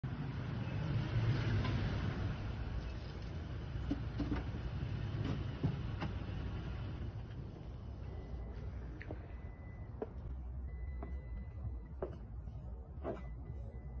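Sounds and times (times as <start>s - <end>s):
pickup truck engine rumble: 0.0s - 14.0s.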